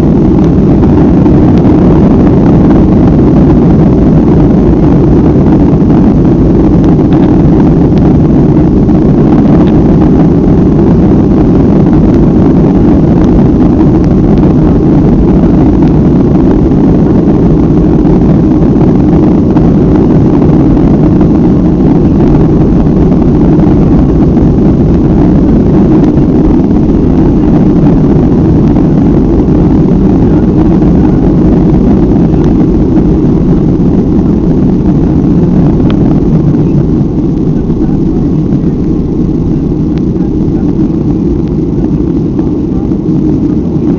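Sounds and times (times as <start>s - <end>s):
jet engines roaring: 0.0s - 43.9s
wheels rumbling on runway: 0.0s - 43.9s.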